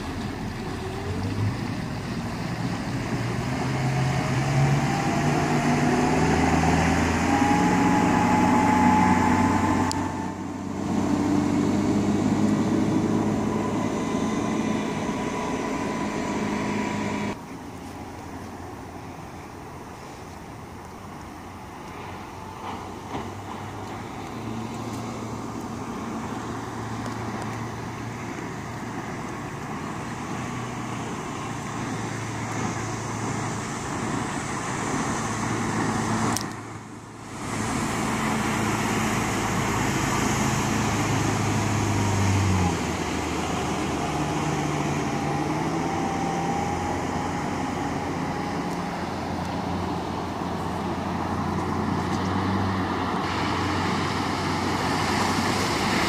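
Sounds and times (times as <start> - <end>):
boat engine drone: 0.0 - 56.0
hull rushing through water: 0.0 - 56.0.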